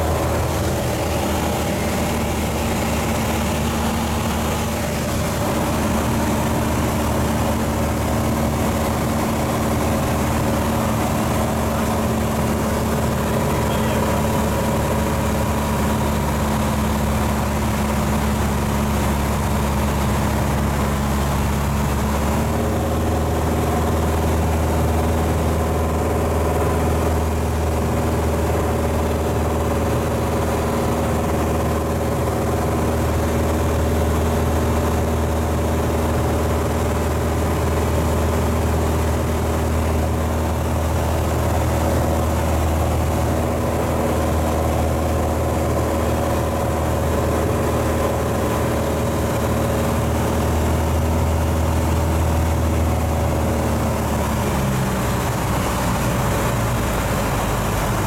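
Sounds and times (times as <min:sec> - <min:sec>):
airplane engine and propeller drone: 0:00.0 - 0:58.0.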